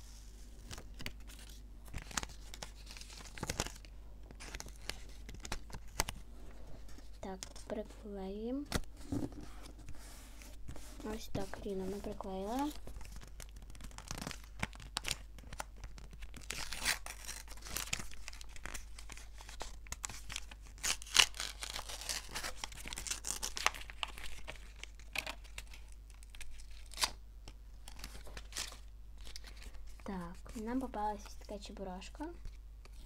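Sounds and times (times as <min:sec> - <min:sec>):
paper crinkling and tearing: 0:00.0 - 0:06.2, 0:08.7 - 0:27.2, 0:27.8 - 0:33.0.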